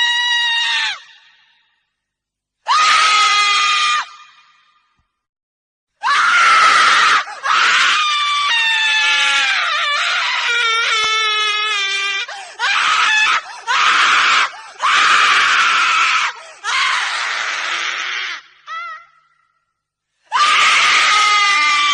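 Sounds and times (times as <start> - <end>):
woman screaming: 0.0 - 1.2, 2.7 - 4.4, 6.0 - 19.3, 20.3 - 21.9.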